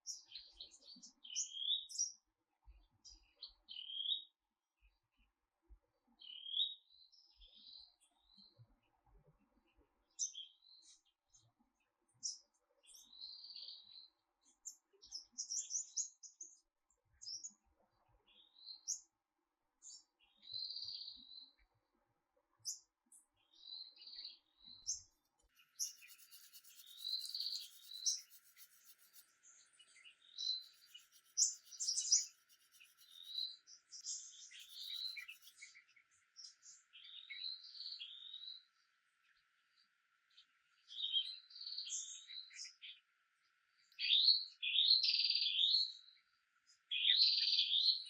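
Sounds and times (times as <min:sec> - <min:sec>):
small songbirds chirping: 0:00.0 - 0:48.0.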